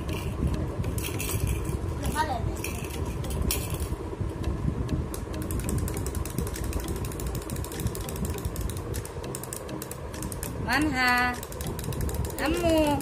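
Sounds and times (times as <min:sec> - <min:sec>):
toy gear mechanism clicking: 0:00.0 - 0:03.9, 0:05.3 - 0:13.0.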